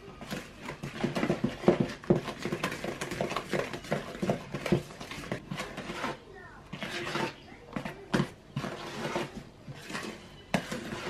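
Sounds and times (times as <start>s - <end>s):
wooden spoon stirring batter in bowl: 0.0s - 11.0s.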